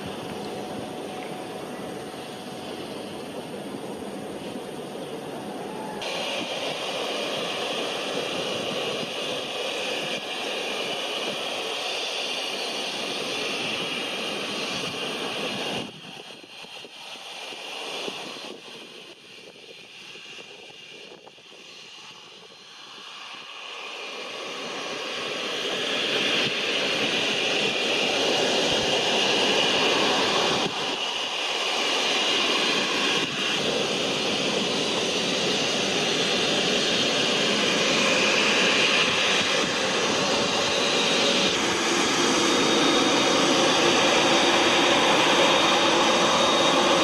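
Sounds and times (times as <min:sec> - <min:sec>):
jet engine rush and whine: 0:00.0 - 0:47.0.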